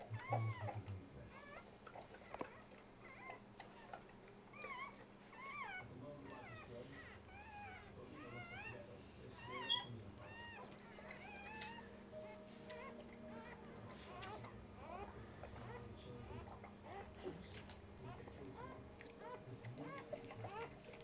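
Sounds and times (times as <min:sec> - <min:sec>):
puppy squeaking: 0:00.0 - 0:21.0.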